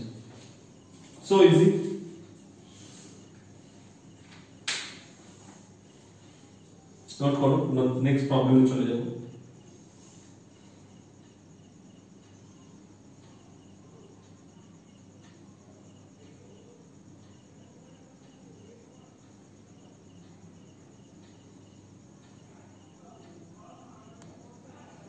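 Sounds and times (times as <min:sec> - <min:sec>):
faint cricket chirping: 0:00.0 - 0:25.0.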